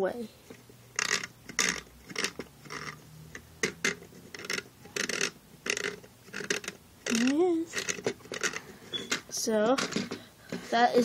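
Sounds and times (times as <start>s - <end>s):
plastic parts rubbing and scraping: 0.4s - 11.0s.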